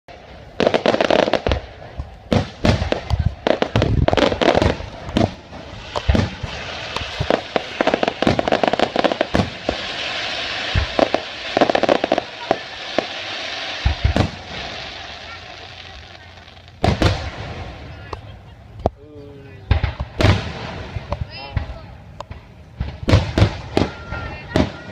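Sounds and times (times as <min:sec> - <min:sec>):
fireworks bangs: 0:00.1 - 0:18.9, 0:19.5 - 0:24.9
fireworks crackle: 0:00.1 - 0:24.9.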